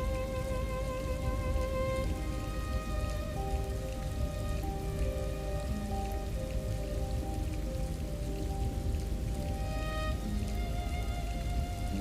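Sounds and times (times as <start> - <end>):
soft ambient electronic music: 0.0 - 12.0
steady rain: 0.0 - 12.0.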